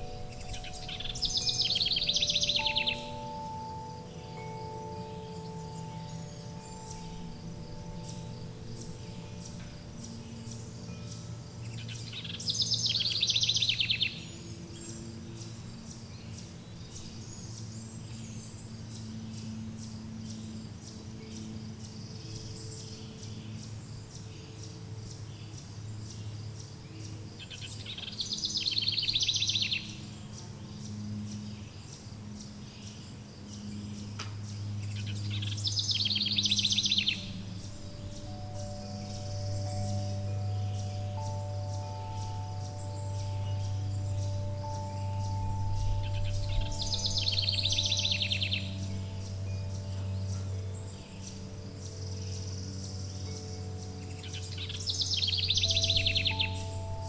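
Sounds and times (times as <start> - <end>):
faint bird chirping: 0.0 - 57.0
low soft sustained tones: 0.0 - 57.0
songbird rapid trill: 0.0 - 57.0.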